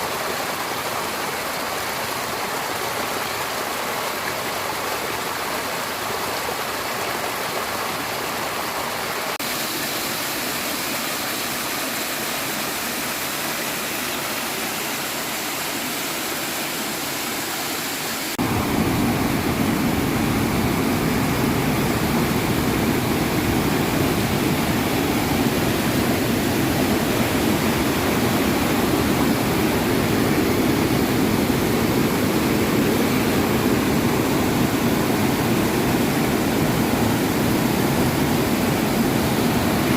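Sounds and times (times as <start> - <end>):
rushing water roar: 0.0 - 39.9.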